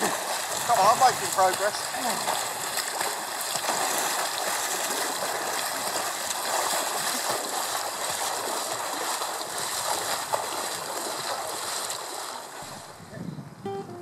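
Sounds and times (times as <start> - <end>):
swimmers splashing in river water: 0.0 - 13.0.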